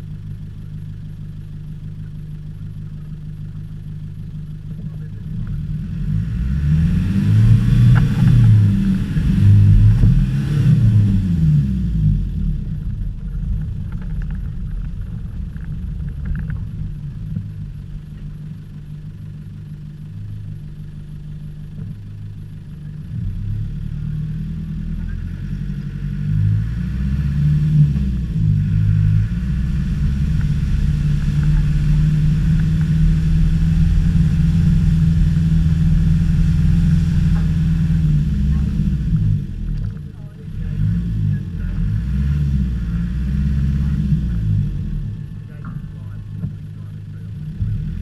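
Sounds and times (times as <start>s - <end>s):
vehicle engine revving off-road: 0.0s - 48.0s.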